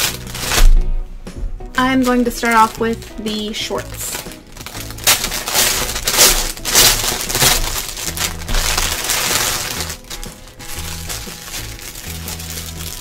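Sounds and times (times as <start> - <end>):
plastic bag crinkling: 0.0 - 0.8, 1.8 - 13.0.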